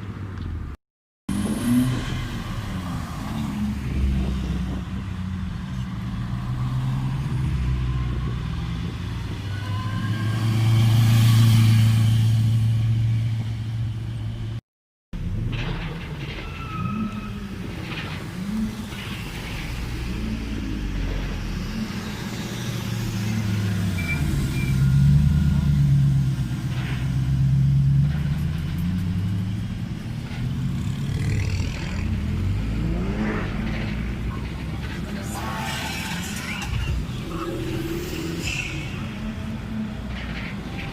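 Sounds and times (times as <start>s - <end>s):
car engines droning: 0.0s - 14.6s, 15.2s - 40.9s.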